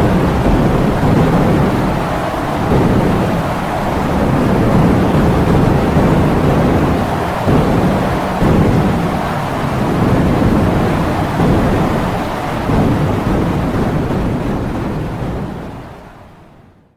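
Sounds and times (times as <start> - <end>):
heavy rain: 0.0 - 16.5
strong wind gusts: 0.0 - 16.8.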